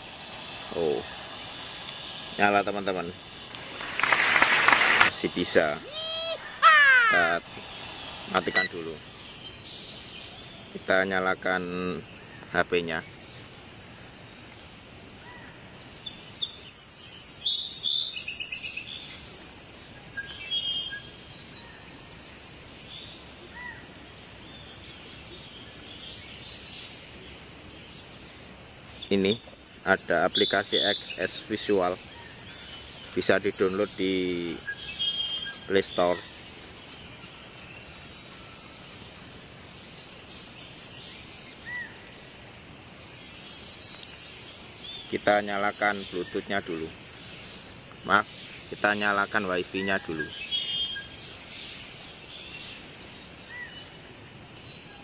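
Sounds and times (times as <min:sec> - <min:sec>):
outdoor background noise: 0:00.0 - 0:55.0
small birds chirping and trilling: 0:00.0 - 0:55.0.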